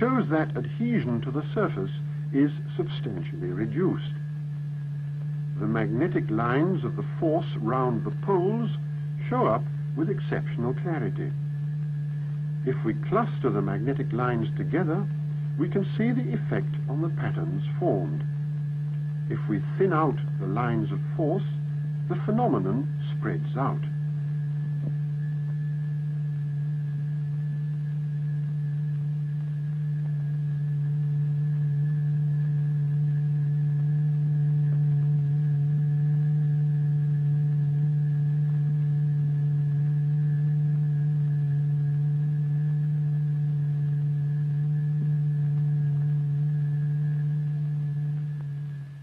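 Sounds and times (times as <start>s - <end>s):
steady low test tone: 0.0s - 49.0s.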